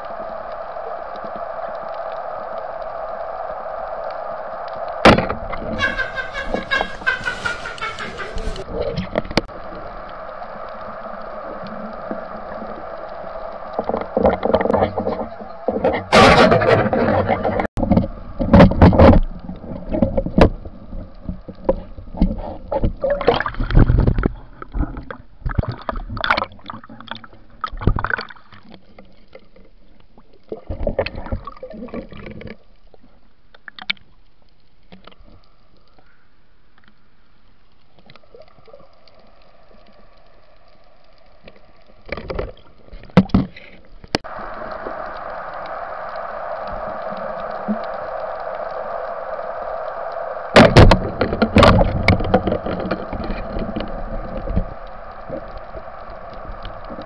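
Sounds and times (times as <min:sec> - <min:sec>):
water splashing and gurgling: 0:00.0 - 0:34.2, 0:37.6 - 0:57.0
steady underwater hiss: 0:00.0 - 0:57.0.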